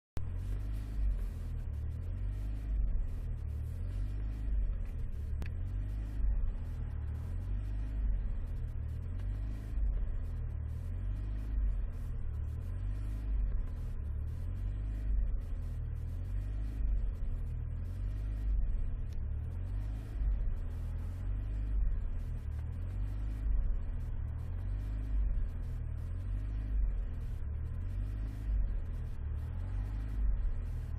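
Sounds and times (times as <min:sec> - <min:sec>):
car engine and road rumble: 0:00.2 - 0:30.9.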